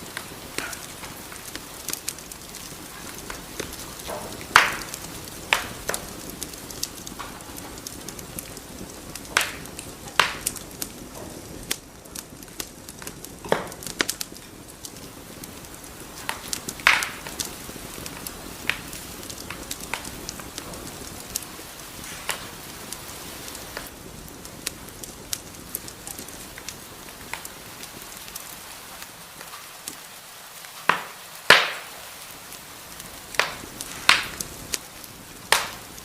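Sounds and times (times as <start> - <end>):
low hiss: 0.0 - 36.0
sharp pops from fire: 0.0 - 36.0
wood fire crackling: 0.0 - 36.0.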